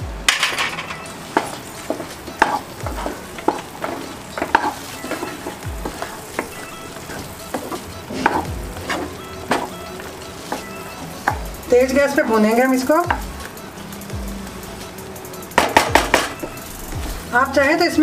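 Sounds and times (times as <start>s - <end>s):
low thuds: 0.0s - 17.4s
food sizzling: 0.0s - 18.0s
spatula scraping a pan: 0.3s - 17.4s.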